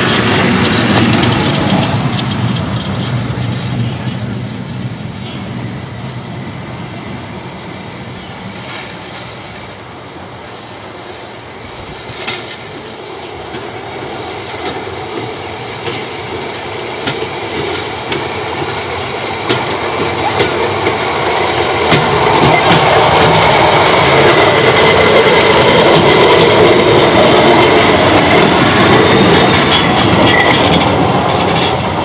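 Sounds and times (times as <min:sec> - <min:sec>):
rail wheels clicking over joints: 0:00.0 - 0:32.0.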